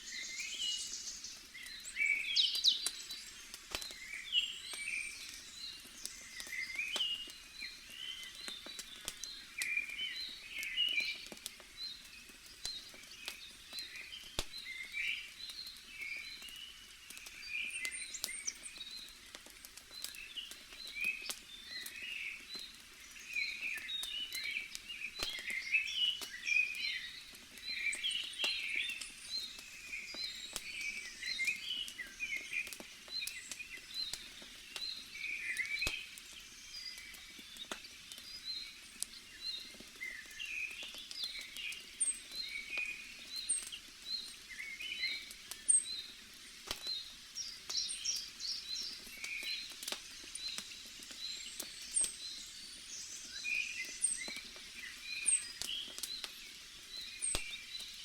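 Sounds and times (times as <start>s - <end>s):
small birds chirping: 0.0s - 58.0s
campfire crackling: 0.1s - 58.0s.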